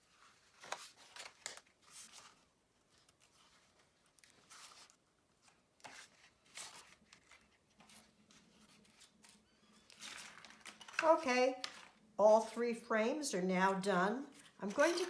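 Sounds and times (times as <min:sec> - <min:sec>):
paper rustling and crackling: 0:00.0 - 0:12.1, 0:14.3 - 0:15.0.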